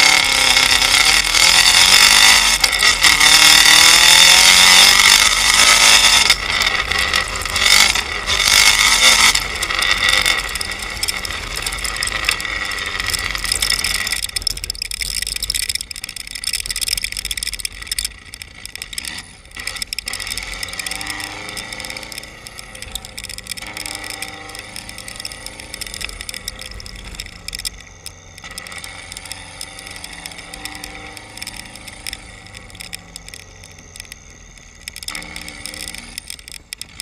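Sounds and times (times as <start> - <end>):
gravel and tyre hiss: 0.0 - 37.0
rally car engine revving: 0.0 - 37.0.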